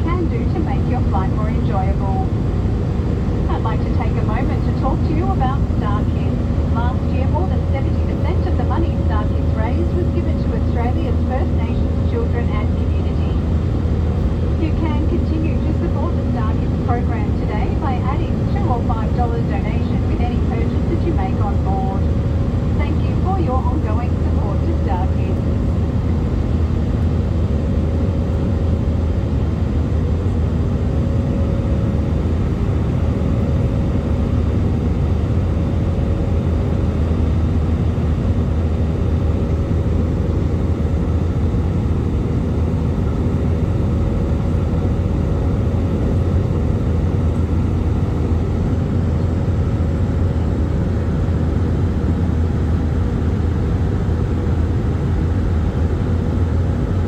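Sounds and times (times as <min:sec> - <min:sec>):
airplane cabin drone: 0:00.0 - 0:57.0
faint high hum: 0:00.0 - 0:57.0.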